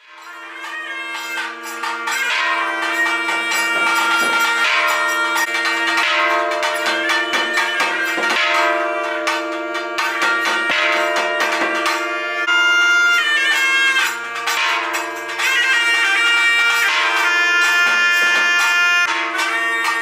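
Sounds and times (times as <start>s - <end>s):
temple bells ringing rapidly: 0.0s - 20.0s.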